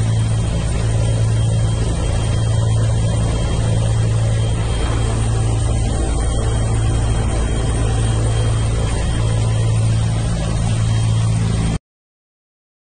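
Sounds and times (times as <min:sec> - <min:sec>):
helicopter engine and rotor noise: 0:00.0 - 0:11.8.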